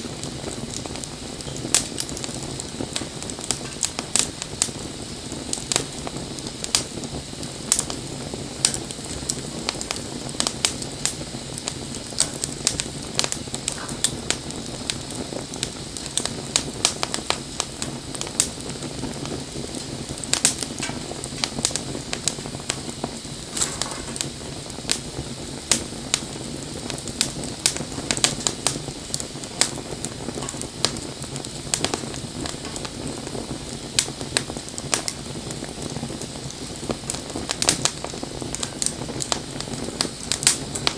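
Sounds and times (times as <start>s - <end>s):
bonfire crackling and popping: 0.0s - 40.9s
low rush of flame: 0.0s - 40.9s.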